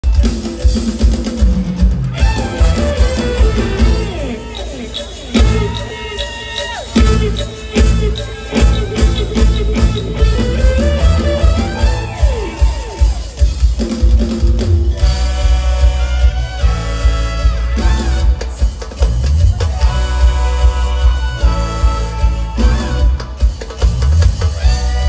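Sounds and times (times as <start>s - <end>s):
band playing through loudspeakers: 0.0s - 25.0s
drum kit beat: 0.0s - 25.0s.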